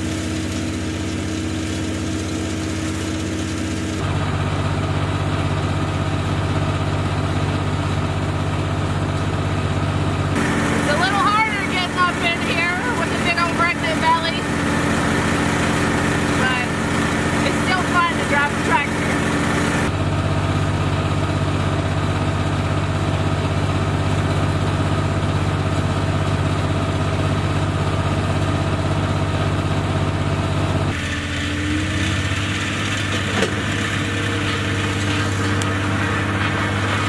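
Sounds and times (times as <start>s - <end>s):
skid steer engine running: 0.0s - 37.0s.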